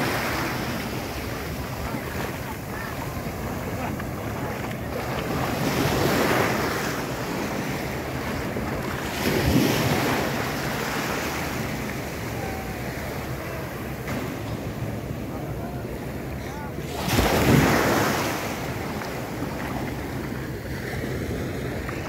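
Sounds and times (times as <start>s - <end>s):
small waves breaking on sand: 0.0s - 22.0s
wind buffeting microphone: 0.0s - 22.0s.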